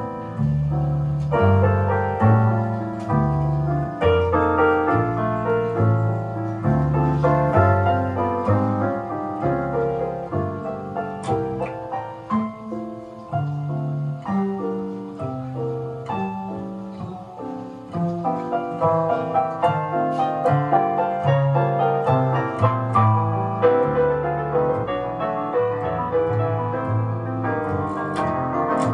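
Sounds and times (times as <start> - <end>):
piano music over loudspeakers: 0.0 - 28.9.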